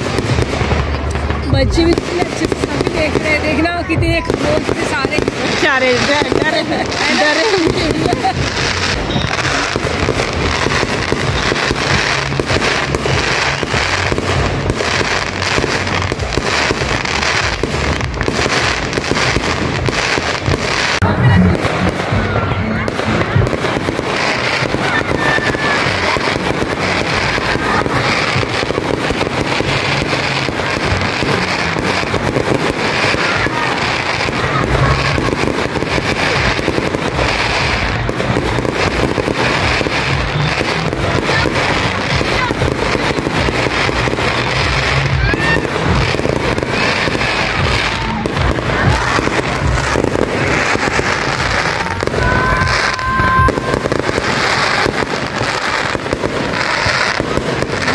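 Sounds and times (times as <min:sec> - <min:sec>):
fireworks bangs and crackling: 0:00.0 - 0:57.9.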